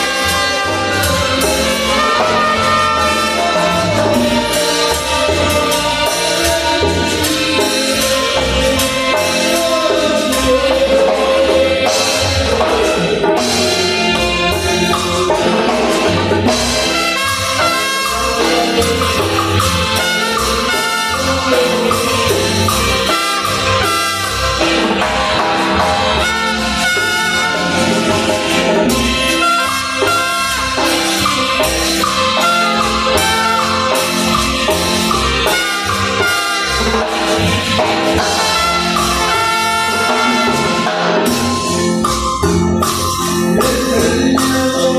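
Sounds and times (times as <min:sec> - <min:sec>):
latin-style electronic music: 0:00.0 - 0:44.9.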